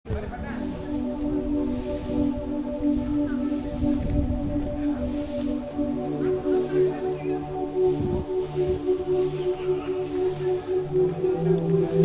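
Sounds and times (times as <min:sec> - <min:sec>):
low rumbling noise: 0:00.2 - 0:12.0
repeating pitched notes music: 0:00.4 - 0:12.0.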